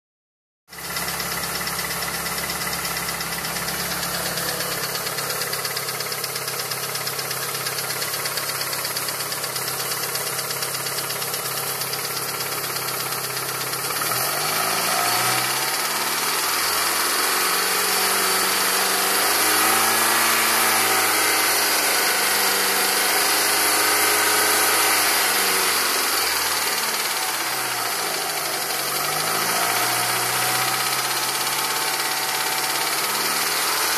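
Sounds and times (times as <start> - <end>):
engine ticking: 0.7 - 19.8, 23.3 - 33.9
car engine idling and revving: 0.7 - 33.9.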